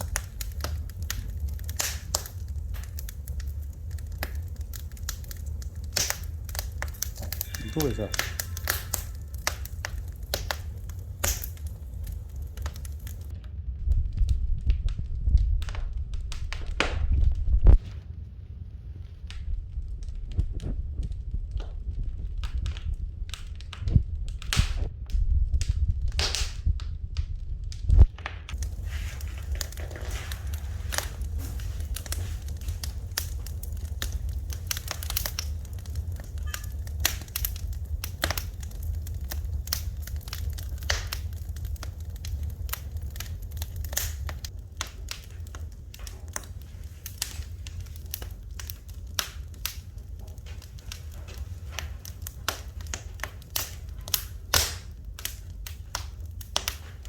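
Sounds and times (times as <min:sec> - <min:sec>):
low steady rumble: 0:00.0 - 0:57.0
sharp pops of fire: 0:00.0 - 0:57.0
wood fire crackling: 0:00.0 - 0:57.0.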